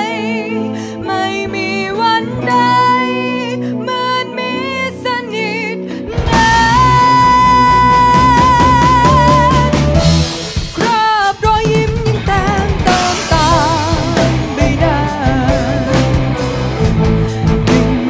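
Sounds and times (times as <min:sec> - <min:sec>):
woman singing: 0:00.0 - 0:10.1, 0:10.8 - 0:16.4, 0:17.0 - 0:18.0
rock band playing: 0:01.0 - 0:18.0.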